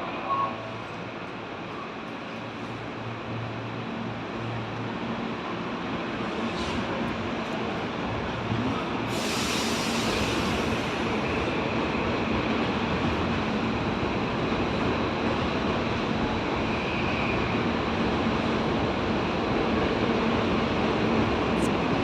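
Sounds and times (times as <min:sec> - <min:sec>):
electric train rumbling on rails: 0:00.0 - 0:22.0.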